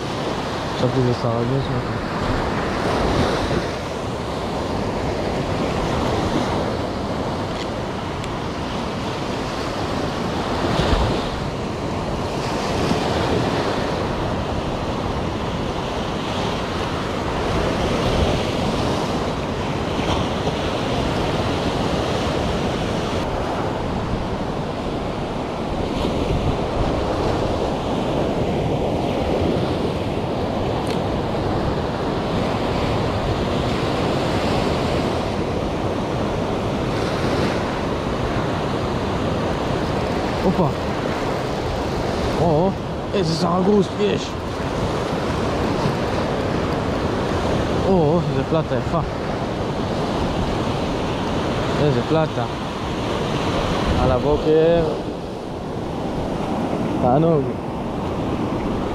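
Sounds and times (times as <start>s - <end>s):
surf breaking on shore: 0.0s - 58.9s
wind rumbling on microphone: 0.0s - 58.9s.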